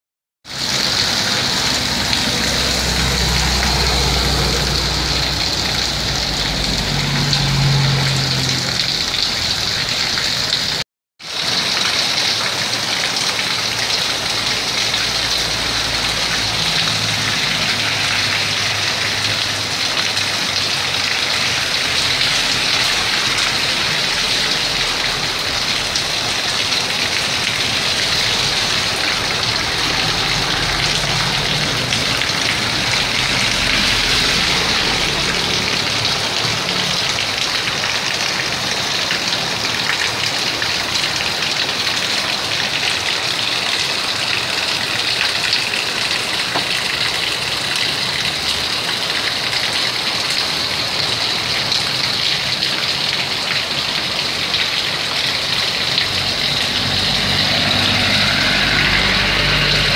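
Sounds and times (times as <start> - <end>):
heavy rain on a street: 0.4 - 59.9
vehicles on wet road: 0.4 - 59.9.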